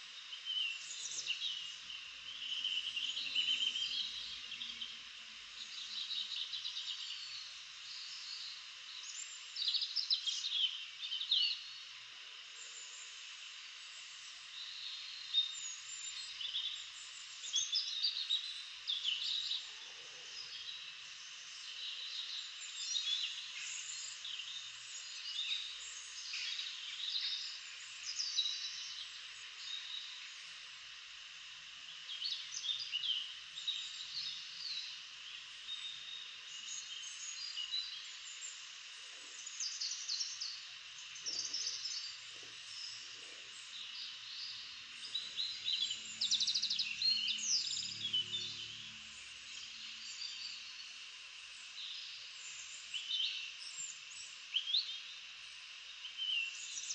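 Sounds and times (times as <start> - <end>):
steady hiss: 0.0 - 56.9.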